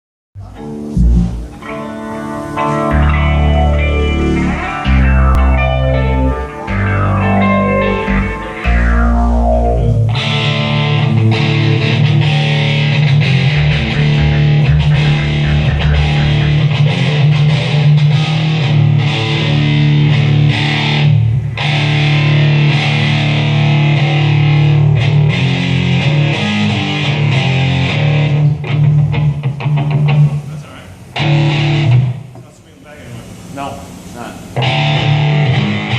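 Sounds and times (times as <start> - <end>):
distorted electric guitar: 0.4 - 30.4, 31.1 - 32.3, 34.6 - 35.9
rock band playing live: 0.6 - 30.3.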